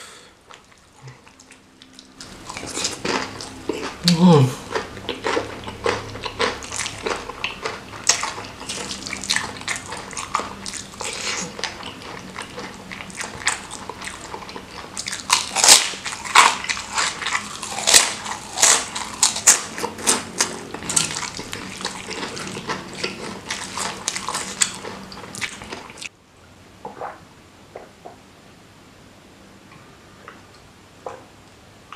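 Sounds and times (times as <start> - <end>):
wet chewing and mouth smacking: 0.5 - 26.1.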